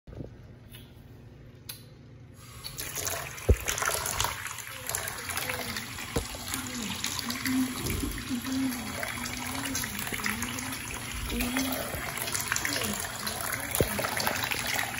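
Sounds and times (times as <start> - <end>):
tap water running into bathtub: 2.4 - 14.9.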